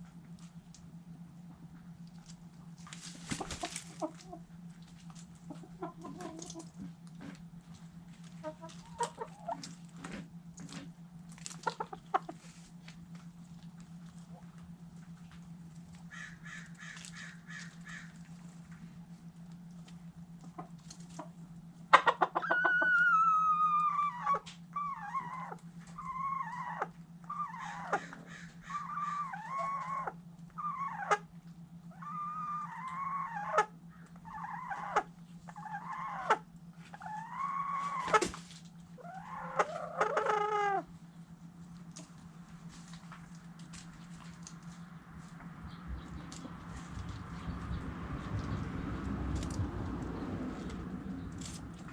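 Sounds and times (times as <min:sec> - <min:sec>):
steady low hum: 0:00.0 - 0:51.9
chickens calling: 0:01.6 - 0:51.9.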